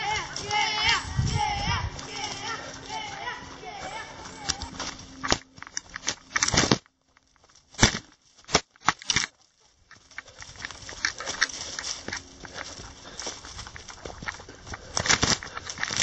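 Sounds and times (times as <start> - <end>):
running footsteps on dry leaves: 0.0 - 16.0.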